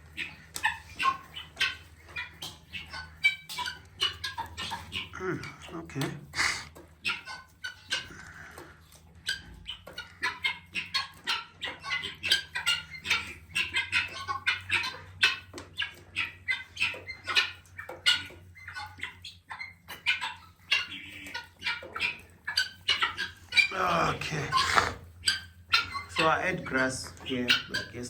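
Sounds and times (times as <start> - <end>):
chickens clucking: 0.0 - 28.0
guineafowl calling harshly: 0.0 - 28.0.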